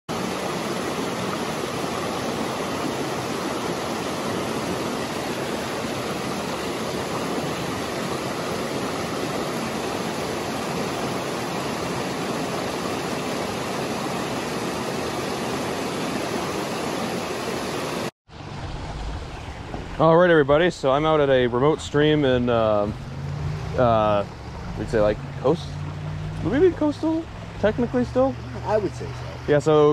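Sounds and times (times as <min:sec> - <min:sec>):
stream running over stones: 0:00.1 - 0:29.9.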